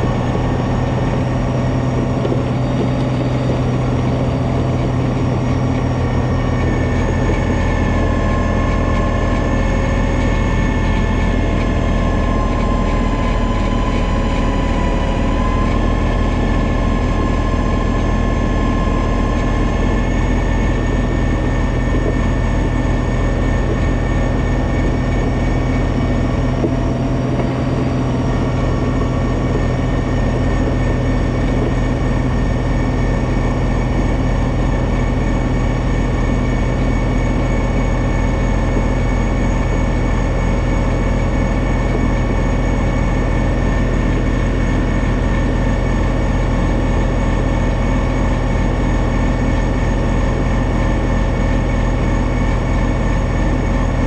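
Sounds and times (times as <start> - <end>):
diesel tractor engine: 0.0 - 54.0
high whine: 0.0 - 54.0.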